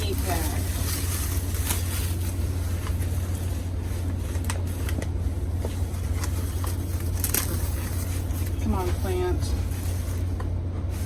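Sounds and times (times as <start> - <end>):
packing material rustling: 0.0 - 11.0
steady low hum: 0.0 - 11.0.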